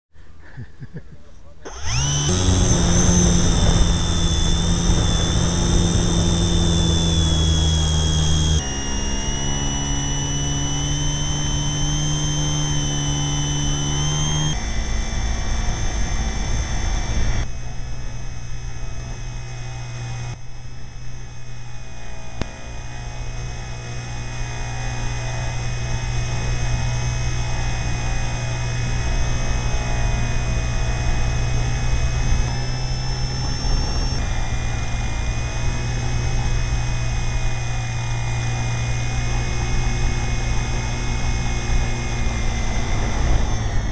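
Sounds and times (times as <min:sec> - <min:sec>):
propeller motors droning: 0:01.6 - 0:43.9.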